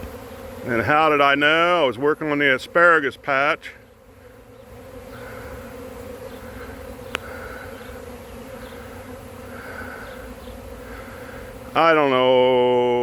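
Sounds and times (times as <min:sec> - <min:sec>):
bee swarm droning: 0:00.0 - 0:13.0.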